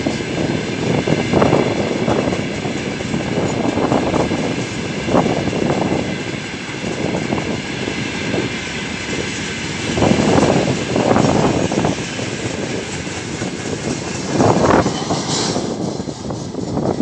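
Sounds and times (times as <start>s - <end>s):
freight wagons rumbling on rails: 0.0s - 17.0s.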